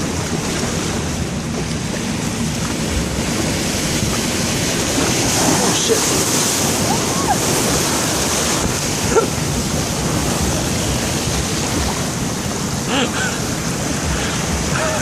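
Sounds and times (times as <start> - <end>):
waves washing ashore: 0.0 - 15.0
wind buffeting microphone: 0.0 - 15.0.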